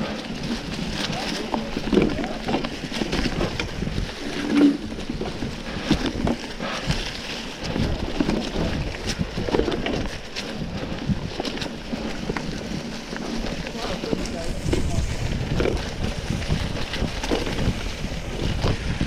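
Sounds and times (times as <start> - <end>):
bike knocks and rattles: 0.0 - 19.0
bike tyres rolling over dirt: 0.0 - 19.0.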